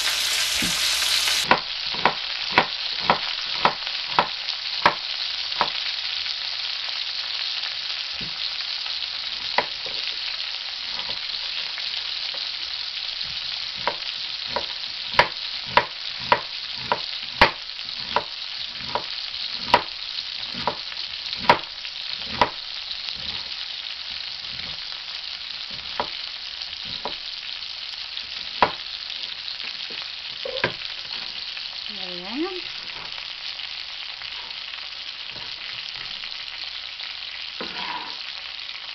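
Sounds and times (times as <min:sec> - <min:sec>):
sausage sizzling in a wok: 0:00.0 - 0:38.9.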